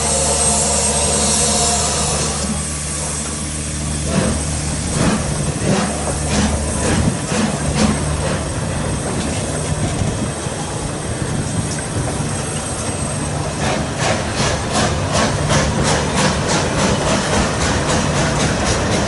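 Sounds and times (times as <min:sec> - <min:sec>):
train coaches rumbling past: 0:00.0 - 0:19.0
train wheels clickety-clack: 0:02.5 - 0:19.0.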